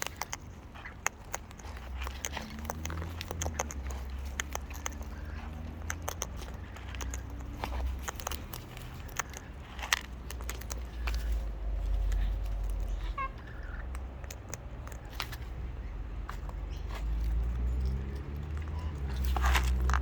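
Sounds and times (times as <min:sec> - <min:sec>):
cockatoo beak crunching: 0:00.0 - 0:20.0.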